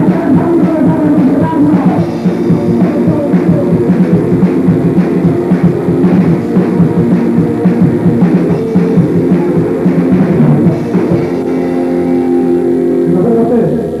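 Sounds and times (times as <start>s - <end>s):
drum kit: 0.0s - 14.0s
punk band playing live: 0.0s - 14.0s
ringing guitar chords: 0.0s - 14.0s.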